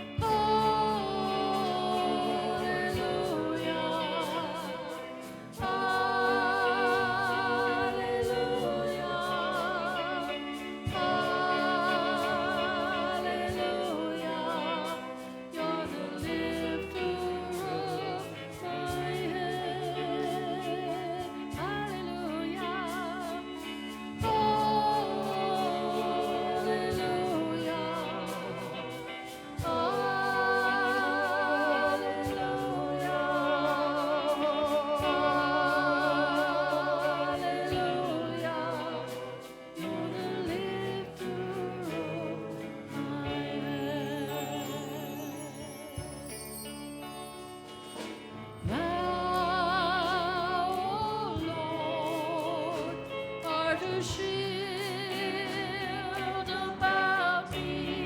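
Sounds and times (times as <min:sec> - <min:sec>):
voices singing with vibrato: 0:00.0 - 0:58.0.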